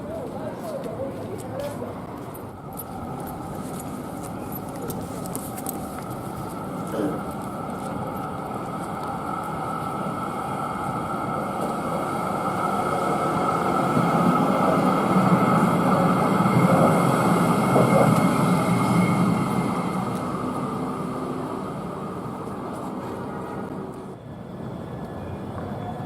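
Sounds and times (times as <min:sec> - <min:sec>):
tram passing with high whine: 0:00.0 - 0:26.0.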